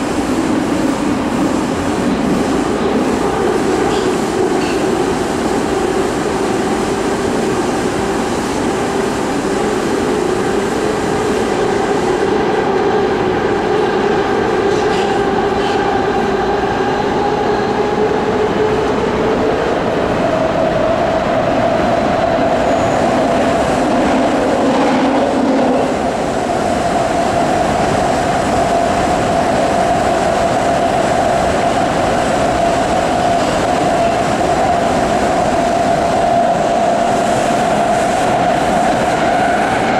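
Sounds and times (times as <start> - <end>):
rising train whine: 0.0 - 39.9
train running on rails: 0.0 - 39.9.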